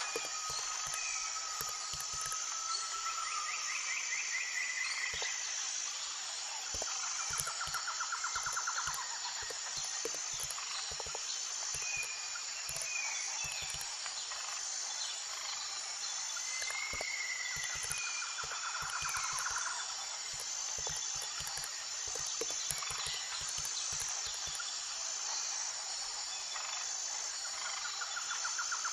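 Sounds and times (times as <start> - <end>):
insects chirping and trilling: 0.0 - 28.9.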